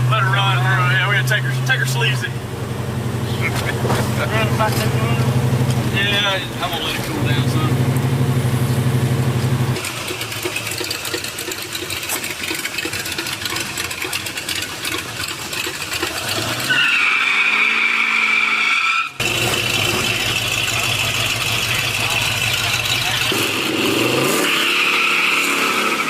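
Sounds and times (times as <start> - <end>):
car engines running: 0.0 - 26.0.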